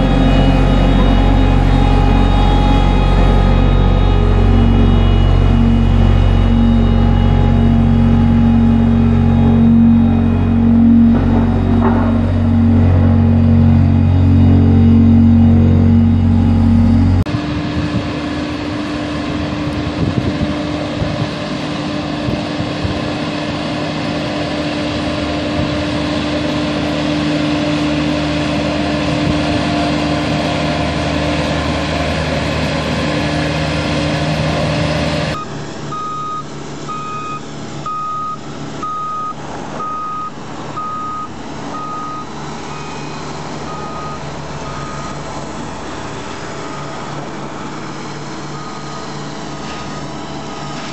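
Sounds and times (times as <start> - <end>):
reversing alarm beeping: 0.0 - 17.9, 24.4 - 49.8
heavy machine engine running: 0.0 - 50.9.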